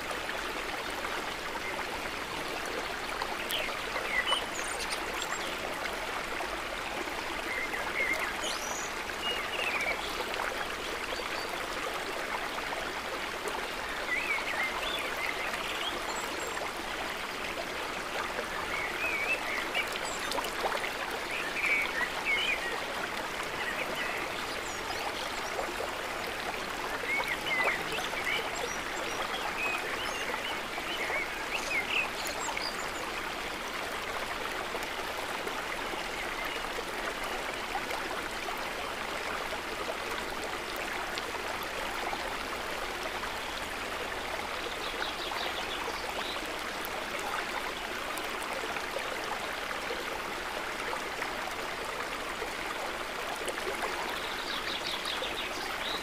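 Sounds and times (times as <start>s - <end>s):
water trickling and babbling: 0.0s - 56.0s.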